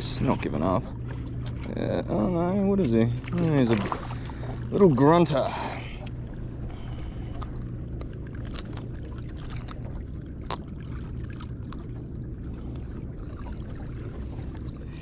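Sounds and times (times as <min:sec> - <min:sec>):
small boat rumble: 0:00.0 - 0:15.0.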